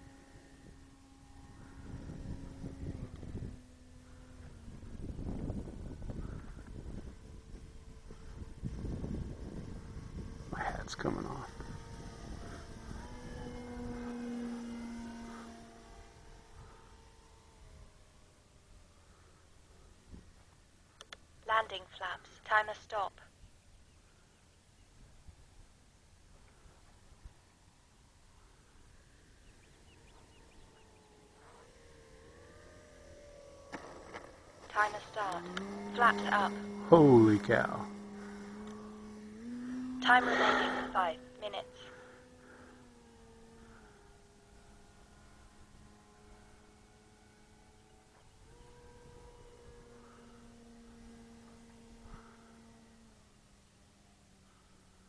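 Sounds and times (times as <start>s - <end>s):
electric motor and propeller whine: 0.0s - 55.0s
faint rising humming tone: 0.0s - 55.0s.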